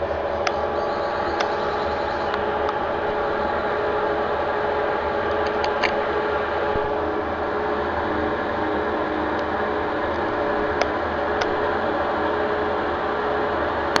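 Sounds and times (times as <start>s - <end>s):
washing machine drone and hiss: 0.0s - 14.0s.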